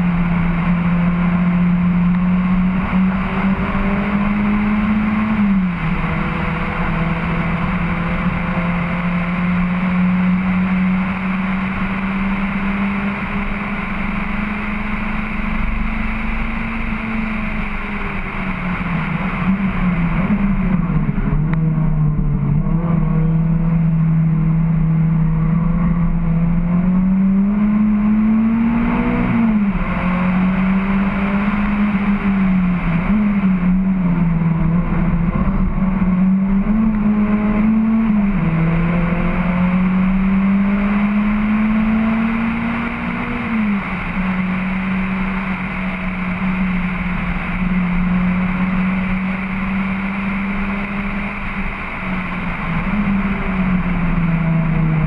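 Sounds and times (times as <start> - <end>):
car engine revving: 0.0 - 55.0
road and wind noise: 0.0 - 55.0.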